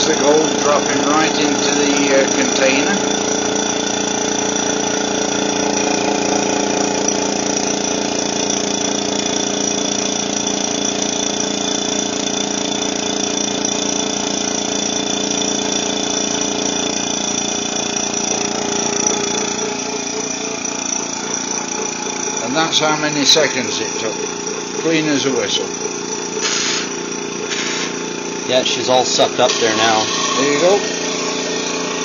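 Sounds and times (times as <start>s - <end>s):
electric suction pump humming: 0.0s - 32.0s.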